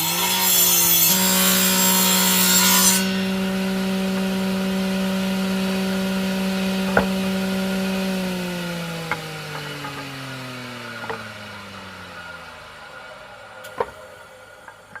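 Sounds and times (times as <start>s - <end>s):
power saw cutting wood: 0.0s - 15.0s.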